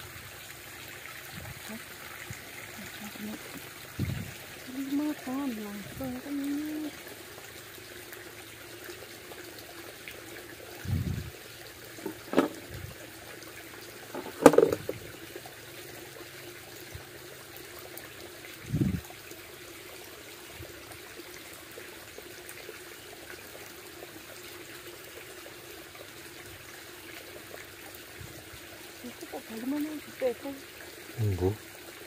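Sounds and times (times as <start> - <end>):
small stream trickling: 0.0 - 32.0.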